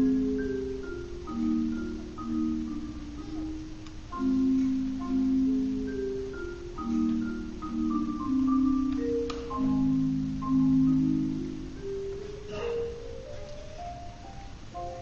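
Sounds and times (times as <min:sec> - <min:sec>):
marimba playing slow chords: 0:00.0 - 0:15.0.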